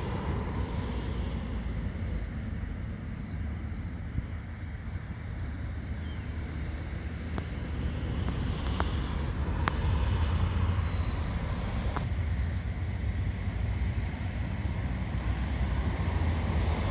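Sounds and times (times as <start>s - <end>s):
light aircraft engine drone: 0.0s - 16.9s
wind rumbling on microphone: 0.0s - 16.9s.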